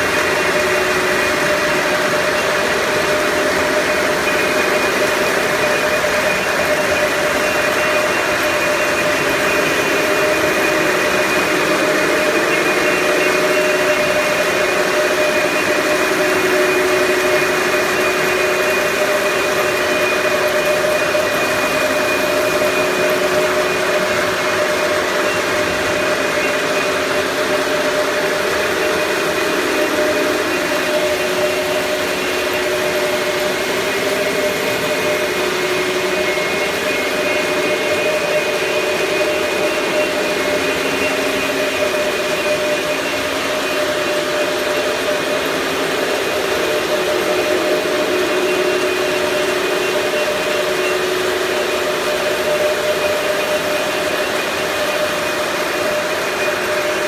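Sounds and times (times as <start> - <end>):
machine hissing and humming: 0.0 - 57.0.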